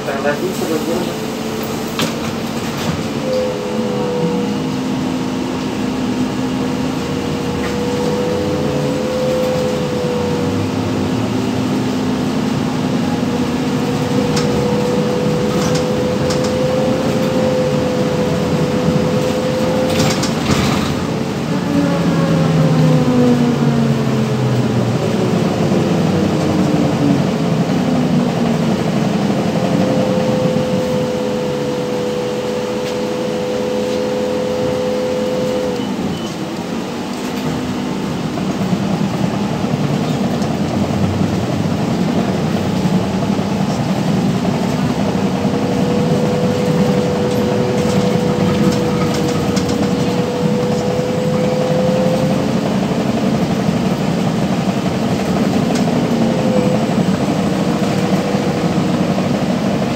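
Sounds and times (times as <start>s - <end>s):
traction motor whine: 0.0s - 59.9s.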